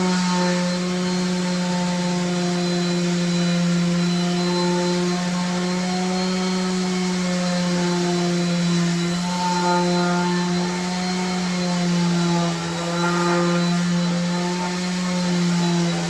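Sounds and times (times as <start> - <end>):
machine humming and whining: 0.0 - 16.0.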